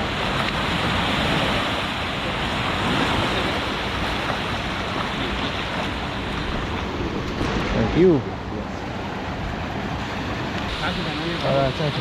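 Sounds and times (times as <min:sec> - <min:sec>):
wind buffeting microphone: 0:00.0 - 0:11.0
sea water rushing around boat: 0:00.0 - 0:12.0.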